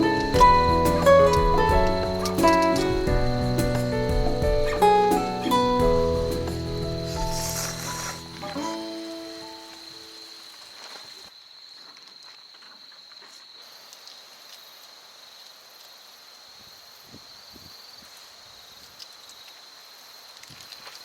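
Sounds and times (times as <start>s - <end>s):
high-pitched insect trill: 0.0s - 21.0s.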